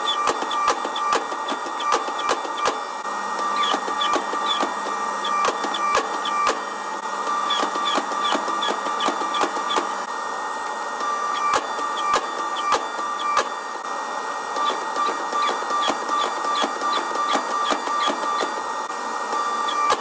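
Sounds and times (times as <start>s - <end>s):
forging press machine whine: 0.0s - 20.0s.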